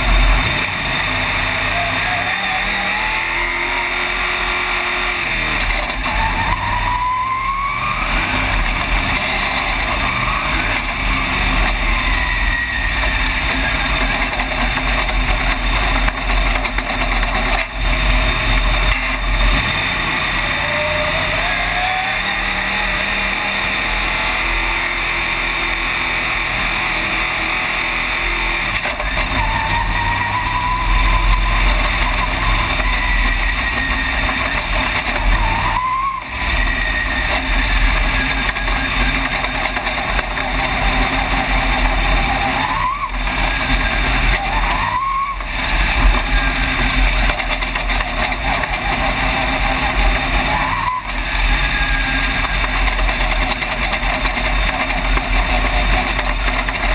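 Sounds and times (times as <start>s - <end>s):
race car engine revving: 0.0s - 56.9s.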